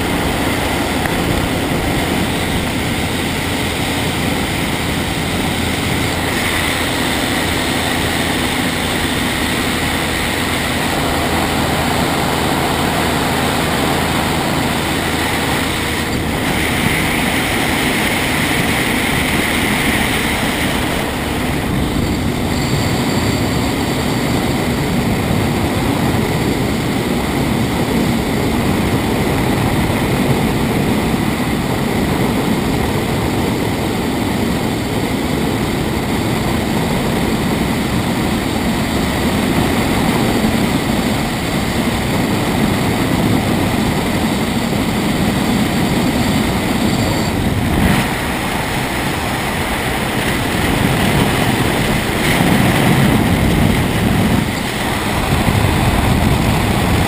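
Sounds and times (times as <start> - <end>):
engine and propeller drone: 0.0 - 57.0
wind rushing over microphone: 0.0 - 57.0.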